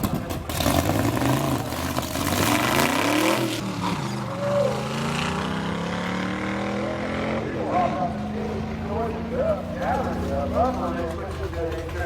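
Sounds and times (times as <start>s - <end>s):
drag-race car engine revving: 0.0s - 12.0s
engines running steadily: 0.0s - 12.0s.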